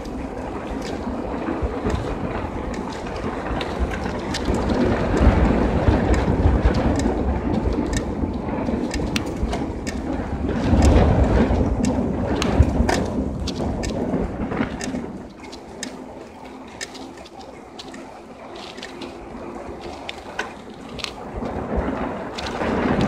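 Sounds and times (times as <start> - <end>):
bicycle tyres rolling: 0.0 - 23.0
light clicks and rattles: 0.0 - 23.0
wind buffeting microphone: 0.0 - 23.0.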